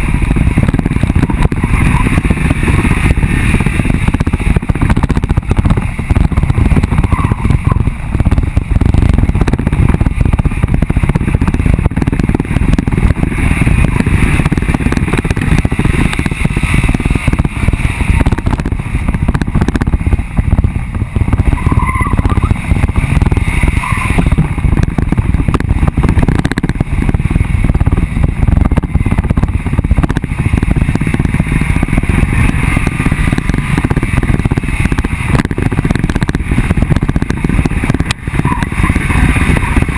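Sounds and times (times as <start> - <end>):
wind buffeting camera: 0.0 - 39.9.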